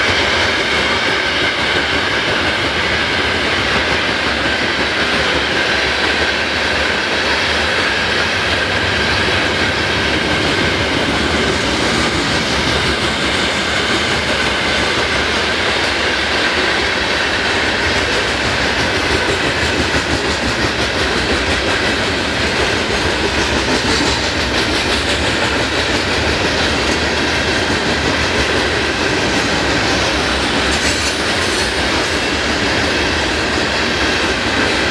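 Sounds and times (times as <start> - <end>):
train wheels clattering on rails: 0.0 - 34.9.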